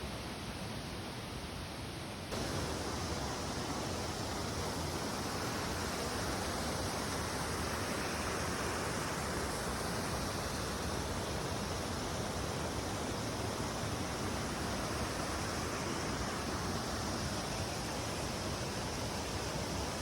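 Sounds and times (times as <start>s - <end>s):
waterfall rushing: 2.3s - 20.0s.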